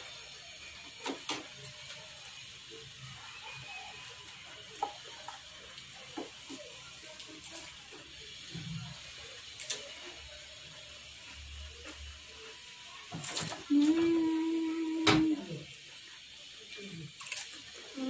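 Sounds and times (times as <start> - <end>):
crunches of people eating: 0.0 - 18.0.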